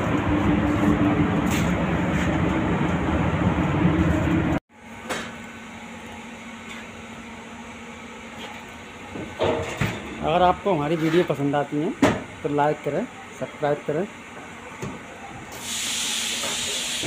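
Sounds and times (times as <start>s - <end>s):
ventilation fans rushing air: 0.0s - 17.0s.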